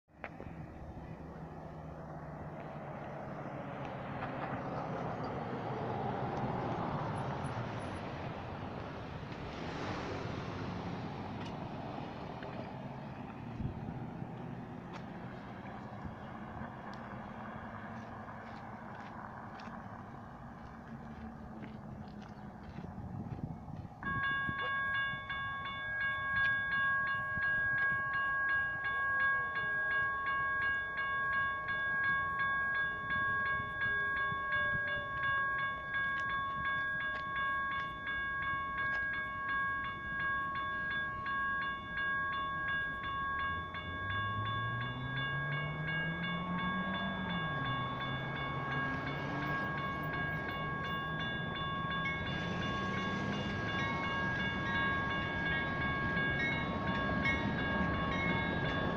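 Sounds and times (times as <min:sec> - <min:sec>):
low engine note rising: 0:00.2 - 0:58.9
railroad crossing bells ringing: 0:00.2 - 0:58.9.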